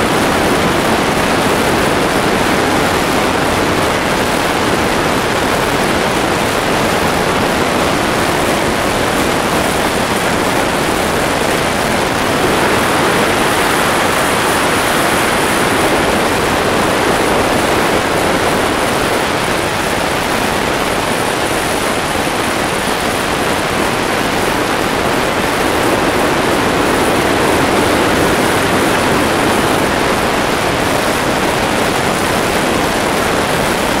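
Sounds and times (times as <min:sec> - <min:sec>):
turboprop engines roaring in flight: 0:00.0 - 0:34.0.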